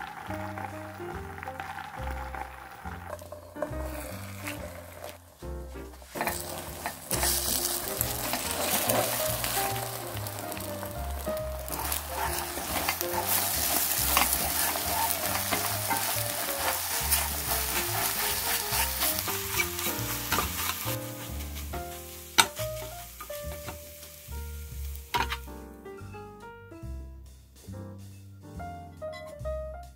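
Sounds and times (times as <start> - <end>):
spatula scraping pan: 0.0 - 25.5
eggs sizzling in frying pan: 0.0 - 25.7.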